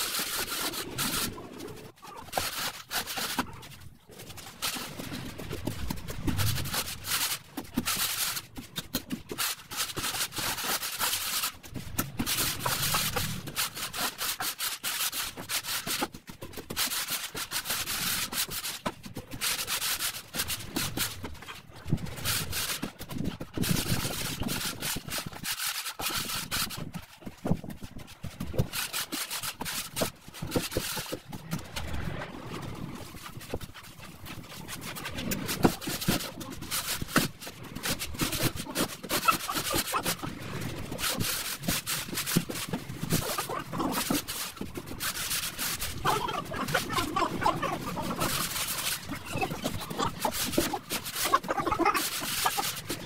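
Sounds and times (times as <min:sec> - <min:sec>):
wooden straightedge scraping wet screed: 0:00.0 - 0:53.0.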